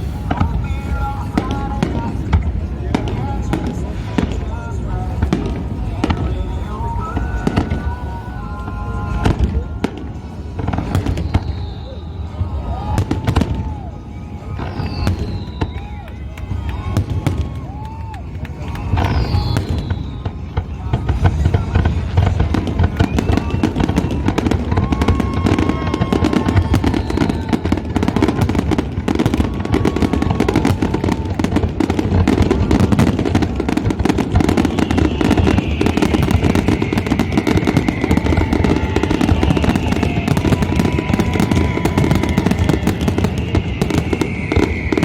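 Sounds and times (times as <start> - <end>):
descending fireworks whistles: 0.0 - 45.0
fireworks bangs and crackles: 0.0 - 45.0.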